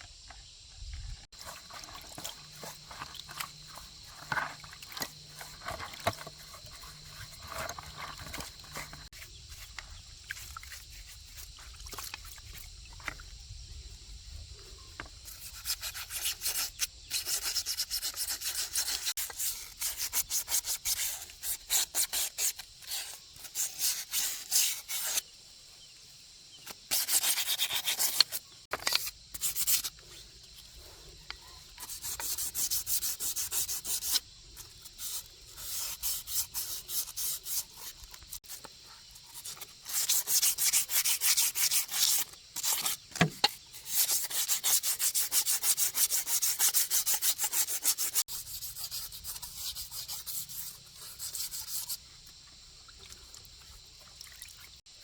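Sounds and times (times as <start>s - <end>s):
hand scrubbing strokes: 1.3s - 12.7s, 14.6s - 25.8s, 26.6s - 28.6s, 29.4s - 52.0s.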